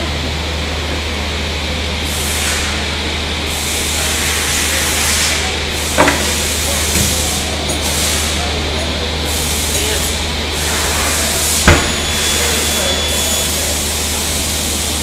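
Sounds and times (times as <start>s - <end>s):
machine hissing: 2.0s - 15.0s.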